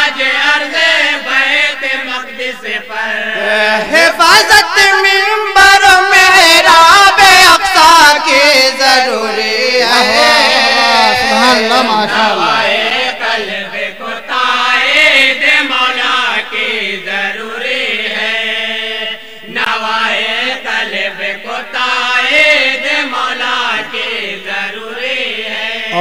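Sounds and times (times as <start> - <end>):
unaccompanied wordless chanting: 0.0 - 26.0.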